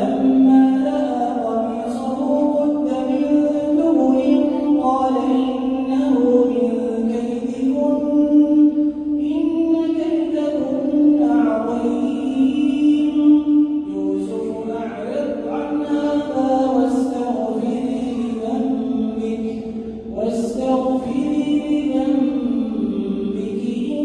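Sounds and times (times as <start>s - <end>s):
man chanting melodic recitation: 0.0s - 24.0s.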